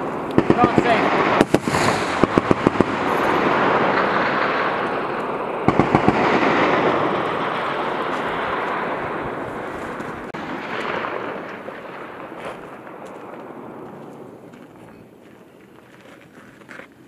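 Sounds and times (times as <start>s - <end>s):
long rolling echo: 0.0s - 16.0s.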